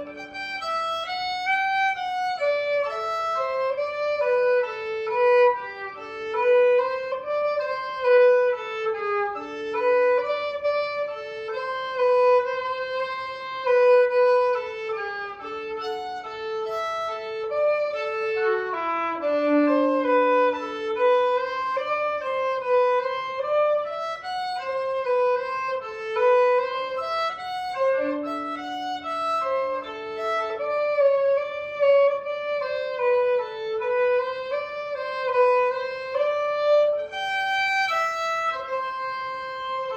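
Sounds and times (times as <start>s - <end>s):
violin melody: 0.0s - 39.9s.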